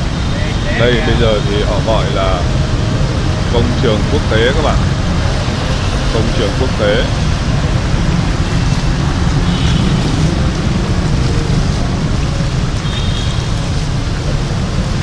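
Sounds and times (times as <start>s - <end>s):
fountain splashing: 0.0s - 15.0s
motorbikes and cars passing: 0.0s - 15.0s.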